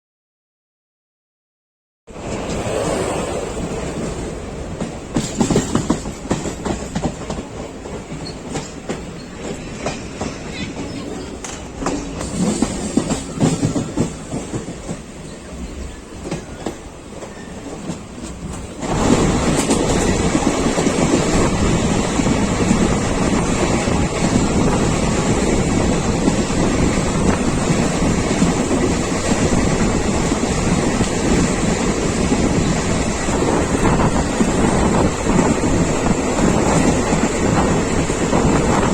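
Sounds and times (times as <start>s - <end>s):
rush of wind and wheel noise: 2.1s - 38.9s
train wheels clacking over rail joints: 3.9s - 38.9s.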